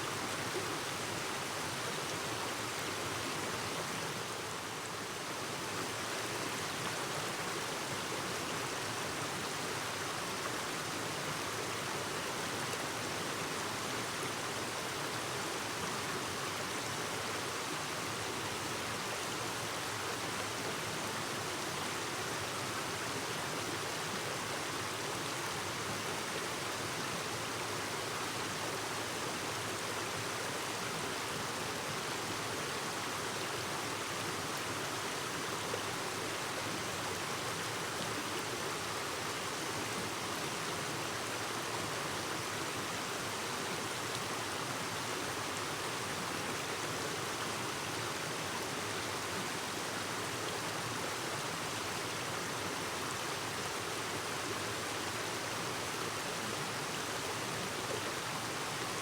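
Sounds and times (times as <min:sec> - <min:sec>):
stream babbling over rocks: 0:05.4 - 0:59.0.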